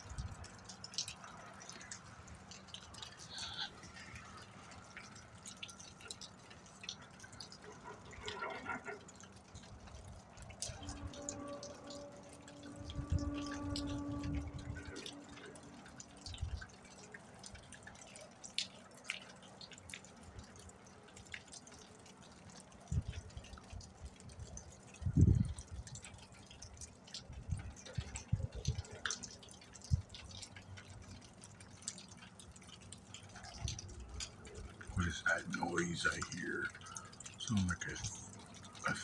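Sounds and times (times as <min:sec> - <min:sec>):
faint dripping ticks: 0:00.0 - 0:39.0.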